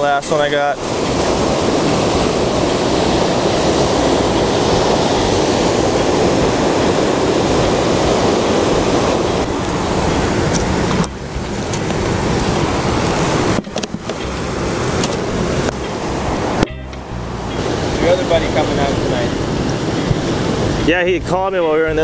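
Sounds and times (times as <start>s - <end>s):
ocean surf on rocks: 0.0s - 22.0s
wind: 0.0s - 22.0s.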